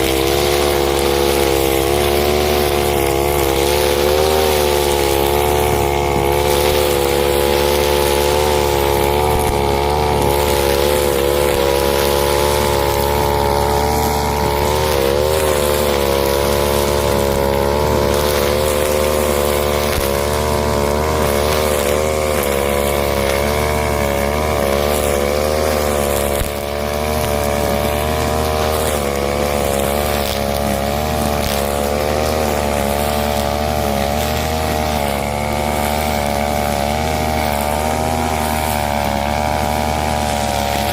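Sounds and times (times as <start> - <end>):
brushcutter engine at high revs: 0.0 - 40.9.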